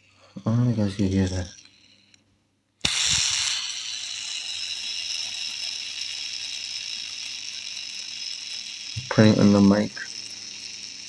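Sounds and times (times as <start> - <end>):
skateboard wheel whirring: 0.0 - 2.2, 2.8 - 11.0.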